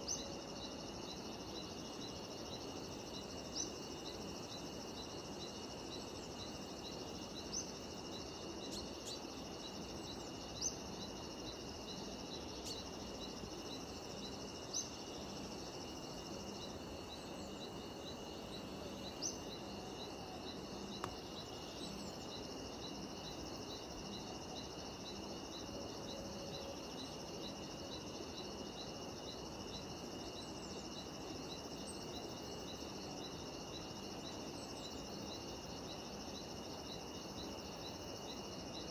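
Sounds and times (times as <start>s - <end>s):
cicadas and insects chirping: 0.0s - 38.9s.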